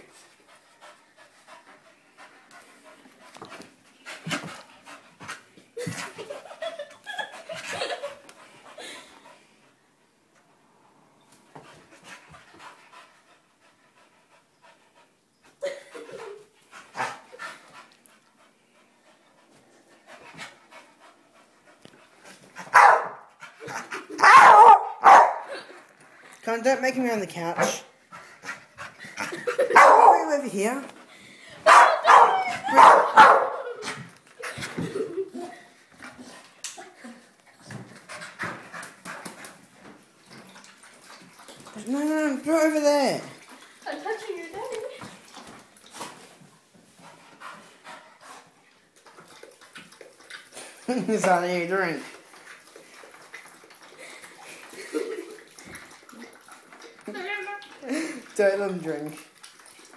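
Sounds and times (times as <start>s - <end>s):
dog panting: 0.0s - 10.1s, 11.5s - 26.4s, 27.4s - 59.9s.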